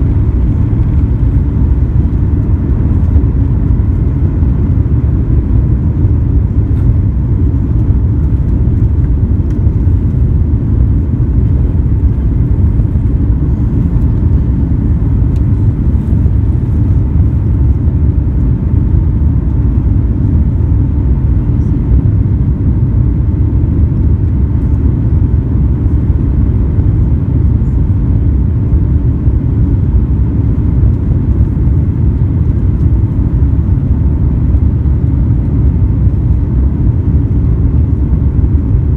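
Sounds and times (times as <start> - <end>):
airplane cabin engine rumble: 0.0 - 38.9
faint steady hum: 0.0 - 38.9.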